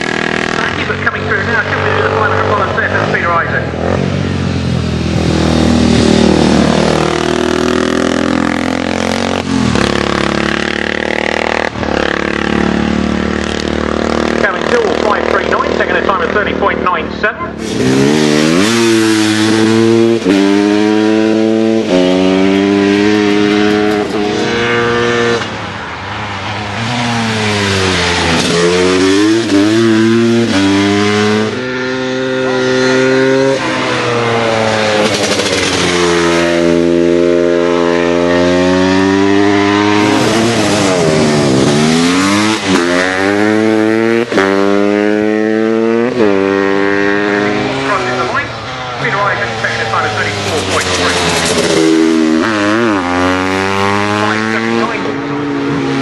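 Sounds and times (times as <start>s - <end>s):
racing motorcycles accelerating: 0.0s - 56.0s.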